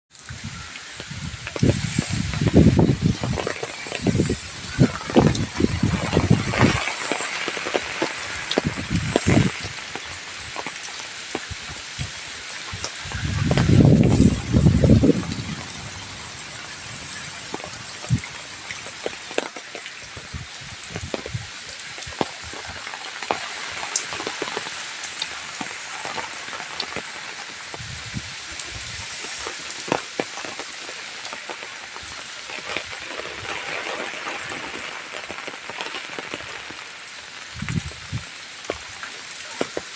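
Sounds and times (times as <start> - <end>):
heavy rain hissing: 0.1 - 39.9
raindrops splatting on surfaces: 0.1 - 39.9.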